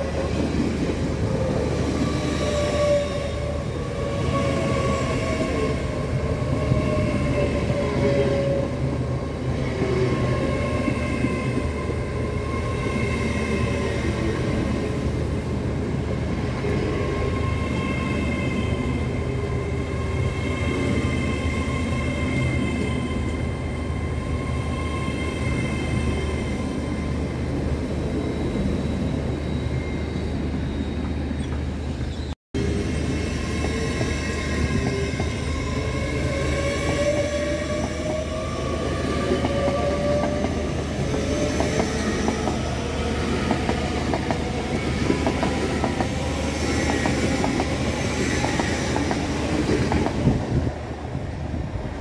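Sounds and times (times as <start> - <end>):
electric train passing at speed: 0.0 - 52.0
train whining: 0.0 - 52.0.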